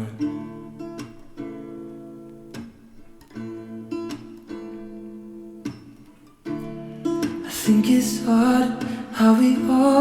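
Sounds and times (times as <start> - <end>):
strummed acoustic guitar chords: 0.0 - 10.0.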